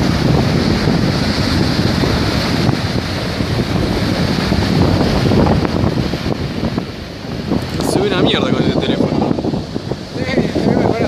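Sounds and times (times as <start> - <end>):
waves washing: 0.0 - 11.0
wind buffeting microphone: 0.0 - 11.0.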